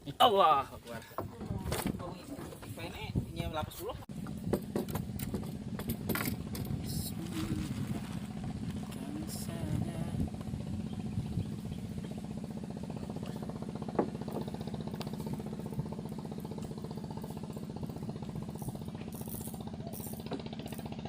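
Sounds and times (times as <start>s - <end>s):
small boat engine pulsing: 0.0s - 21.0s.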